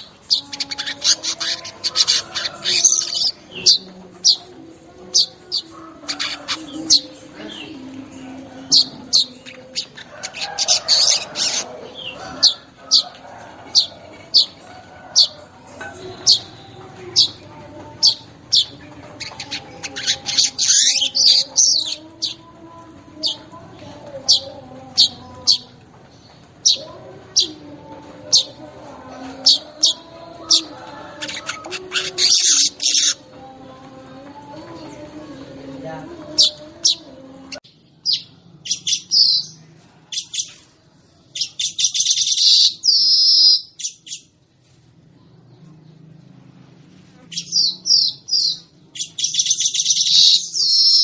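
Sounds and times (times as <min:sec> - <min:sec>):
weaver bird song: 0:00.0 - 0:51.0.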